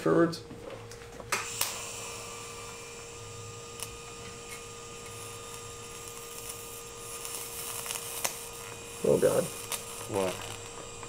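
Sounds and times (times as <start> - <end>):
arc welding hiss and buzz: 0.8 - 11.0
welding arc crackles: 0.8 - 11.0.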